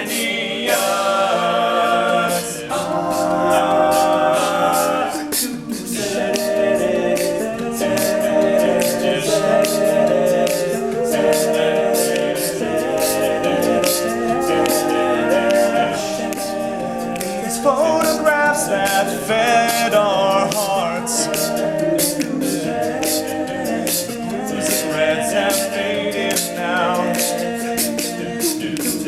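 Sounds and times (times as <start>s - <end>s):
male choir singing chords: 0.0s - 29.0s
vocal percussion beat: 0.0s - 29.0s.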